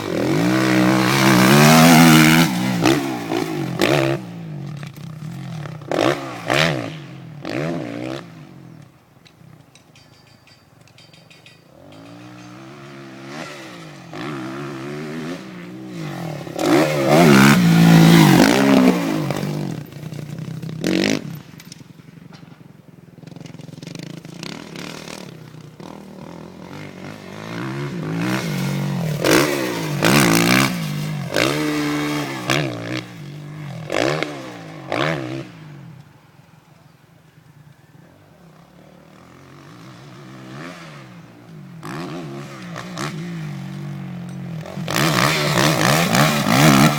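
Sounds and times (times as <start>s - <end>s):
motocross bike engine revving: 0.0s - 8.7s, 11.7s - 21.6s, 23.2s - 35.9s, 38.7s - 46.9s.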